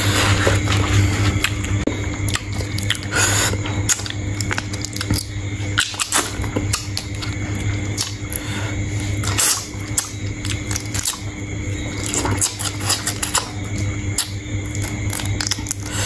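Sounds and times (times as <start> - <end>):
person chewing: 0.0 - 16.0
steady low hum: 0.0 - 16.0.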